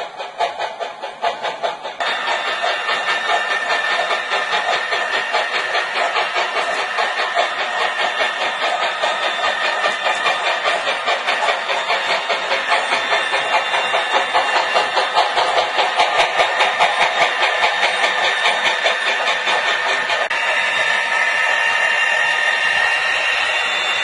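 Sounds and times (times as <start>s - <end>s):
model train whine: 0.0s - 24.0s
wheels clicking over rails: 0.0s - 24.0s.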